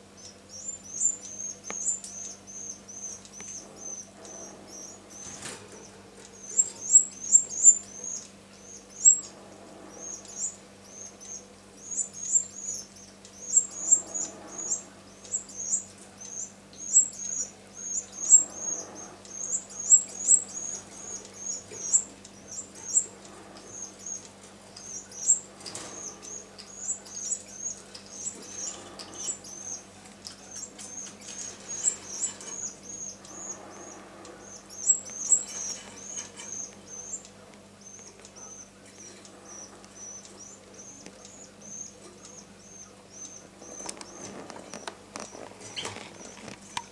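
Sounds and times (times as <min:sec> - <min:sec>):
faint low hum: 0:00.0 - 0:46.9.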